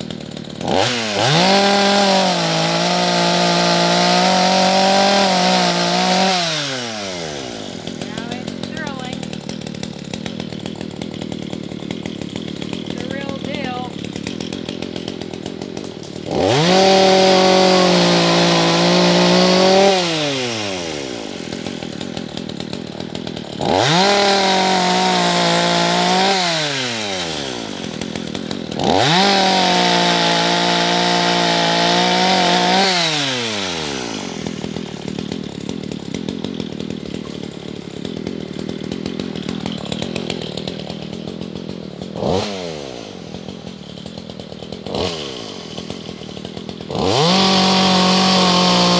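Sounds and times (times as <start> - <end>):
chainsaw idling and revving: 0.0 - 48.9.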